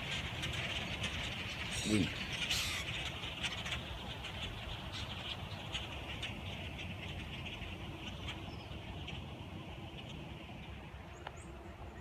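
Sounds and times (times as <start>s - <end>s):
flock of birds calling: 0.0s - 12.0s.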